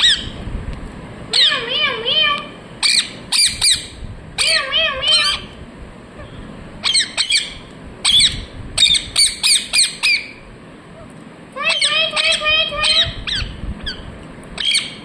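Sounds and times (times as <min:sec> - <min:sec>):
parakeet chirping: 0:00.0 - 0:00.4, 0:01.3 - 0:05.5, 0:06.2 - 0:10.5, 0:11.6 - 0:15.0.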